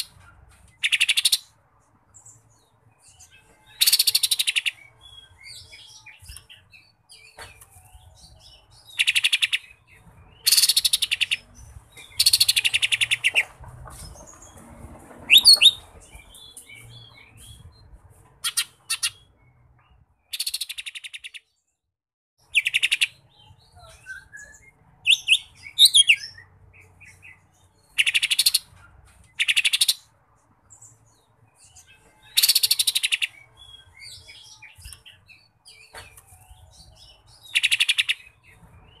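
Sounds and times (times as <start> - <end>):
bird rapid chattering song: 0.0 - 21.7, 22.4 - 39.0.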